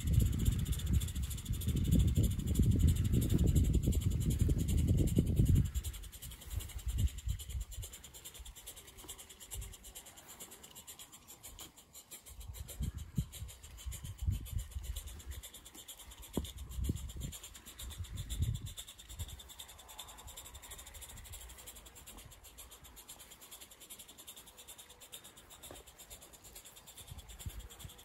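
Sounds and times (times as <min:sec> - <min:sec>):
light rapid chuffing: 0:00.0 - 0:28.0.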